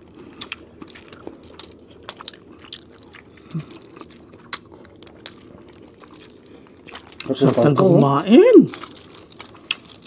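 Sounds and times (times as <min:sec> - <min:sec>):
wet chewing and lip-smacking: 0:00.0 - 0:10.0.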